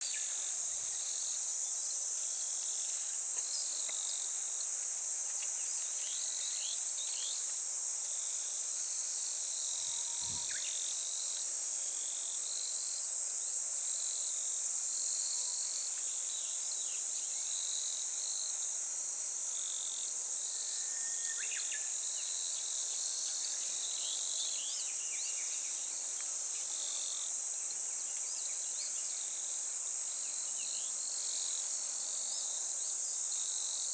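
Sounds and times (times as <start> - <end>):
insect chorus: 0.0 - 33.9.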